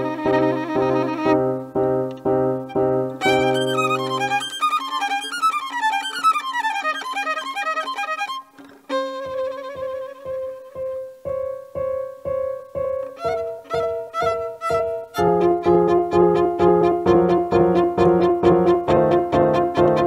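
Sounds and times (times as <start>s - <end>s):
violin playing: 0.0s - 11.6s, 12.7s - 20.0s.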